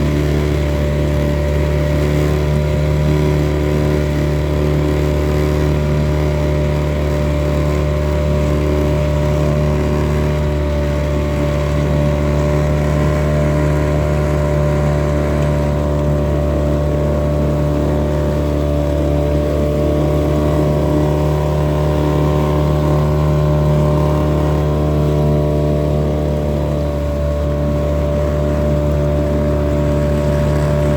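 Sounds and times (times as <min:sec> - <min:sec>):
boat engine humming: 0:00.0 - 0:30.9.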